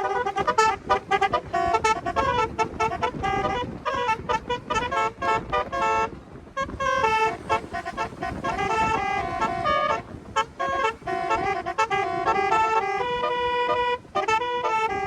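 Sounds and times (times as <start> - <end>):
car horns playing a tune: 0.0 - 15.0.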